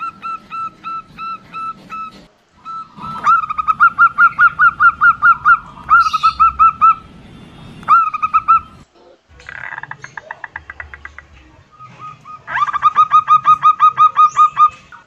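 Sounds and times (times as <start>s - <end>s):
dove cooing: 0.0s - 7.1s, 7.9s - 15.0s.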